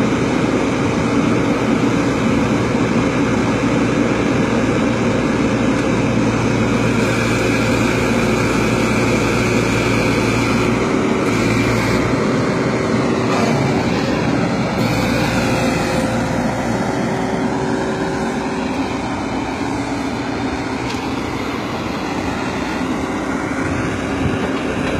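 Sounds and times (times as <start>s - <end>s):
backhoe engine running: 0.0s - 24.9s.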